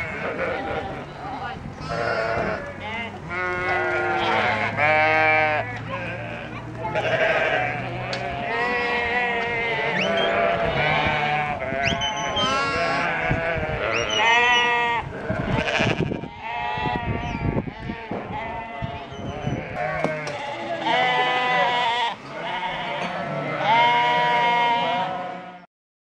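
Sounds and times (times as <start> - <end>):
sheep bleating: 0.0 - 1.1, 1.8 - 25.7.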